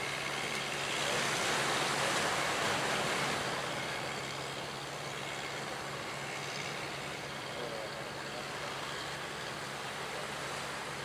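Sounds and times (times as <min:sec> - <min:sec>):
waves breaking on shore: 0:00.0 - 0:11.0.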